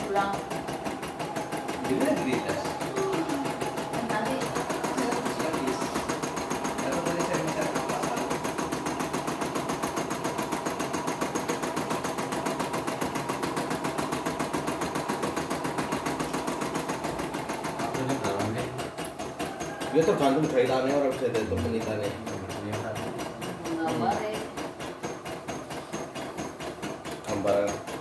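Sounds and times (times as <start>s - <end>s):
embroidery machine stitching: 0.0s - 28.0s.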